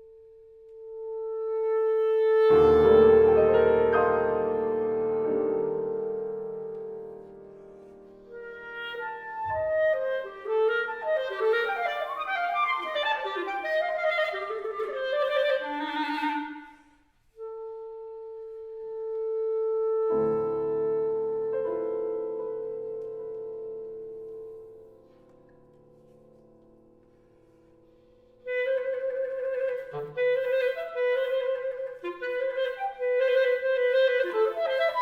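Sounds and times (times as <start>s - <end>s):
clarinet: 0.0s - 35.0s.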